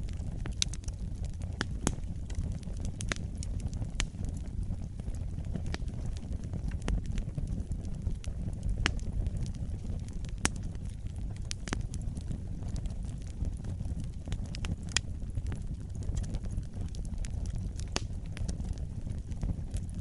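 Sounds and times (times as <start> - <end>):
fire crackles and pops: 0.0 - 20.0
wood fire rumbling: 0.0 - 20.0.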